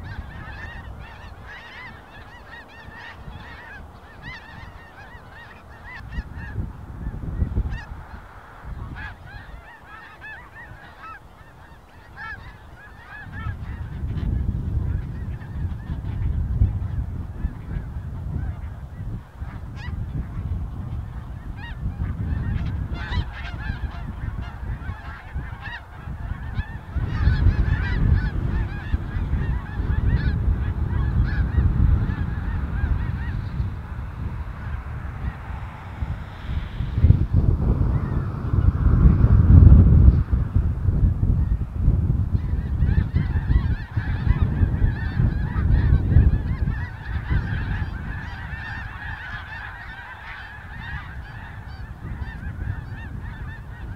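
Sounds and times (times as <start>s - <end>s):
snow geese honking: 0.0s - 38.8s, 42.3s - 53.9s
wind buffeting microphone: 0.0s - 53.9s.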